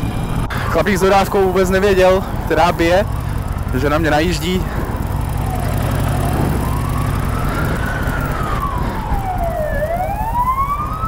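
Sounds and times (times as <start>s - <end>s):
motorcycle engine running: 0.0s - 10.3s
police siren wailing: 0.0s - 11.0s.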